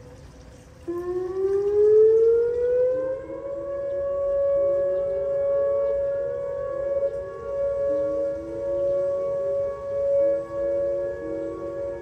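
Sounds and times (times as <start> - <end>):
tornado warning siren wailing: 0.0 - 12.0
fainter rising siren tones: 0.8 - 12.0.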